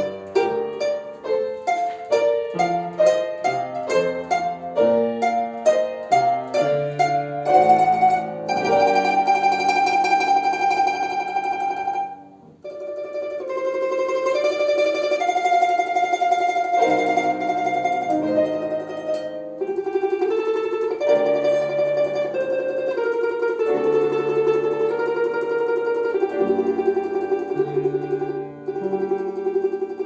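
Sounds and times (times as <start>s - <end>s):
plucked string tremolo melody: 0.0s - 30.0s.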